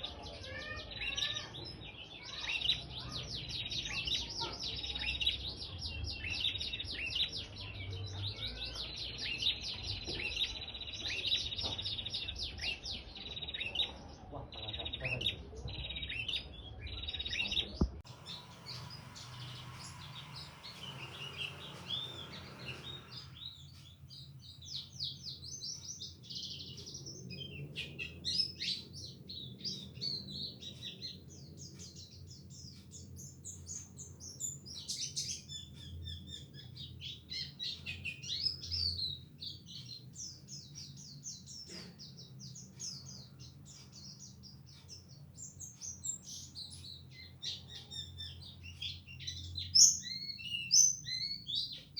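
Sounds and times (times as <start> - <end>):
songbirds chirping and trilling: 0.0 - 51.9.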